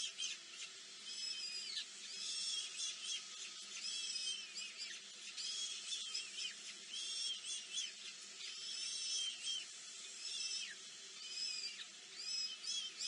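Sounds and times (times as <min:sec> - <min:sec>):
nestling birds chirping: 0:00.0 - 0:13.0.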